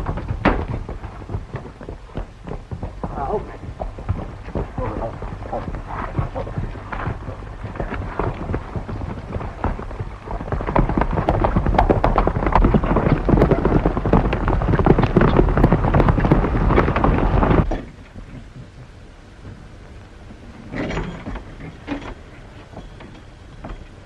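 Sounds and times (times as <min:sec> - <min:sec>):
galloping horse hooves: 0:00.0 - 0:24.0.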